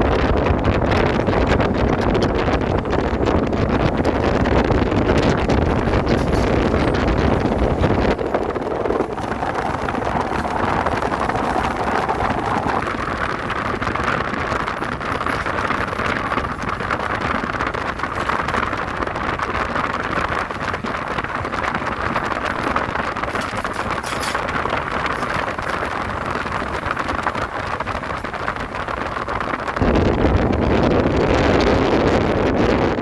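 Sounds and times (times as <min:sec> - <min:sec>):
train rumbling over bridge: 0:00.0 - 0:33.0
wind buffeting microphone: 0:00.0 - 0:33.0.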